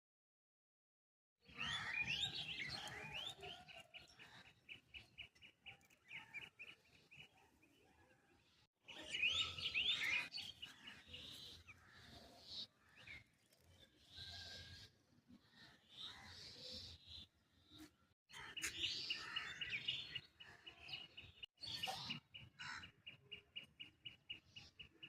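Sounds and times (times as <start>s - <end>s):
small birds chirping: 1.4s - 25.0s.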